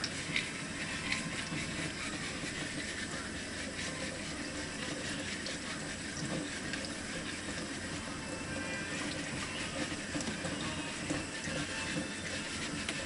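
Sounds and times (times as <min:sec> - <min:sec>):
scrubbing strokes: 0:00.0 - 0:13.0
tap water running into sink: 0:00.0 - 0:13.0.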